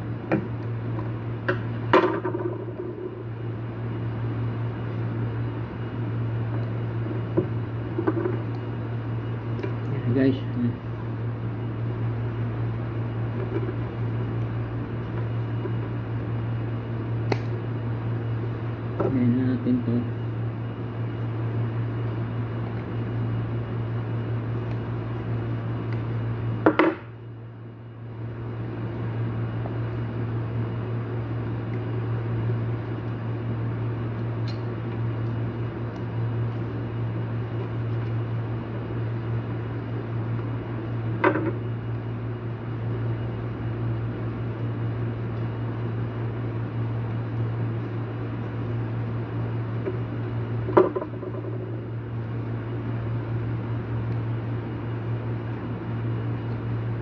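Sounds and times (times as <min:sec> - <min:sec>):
electric motor hum: 0:00.0 - 0:57.0.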